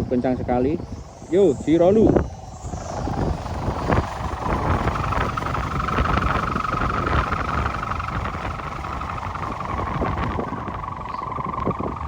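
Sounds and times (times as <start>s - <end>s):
kite hummer high-pitched drone: 0.0s - 12.0s
wind rumble on microphone: 0.0s - 12.0s.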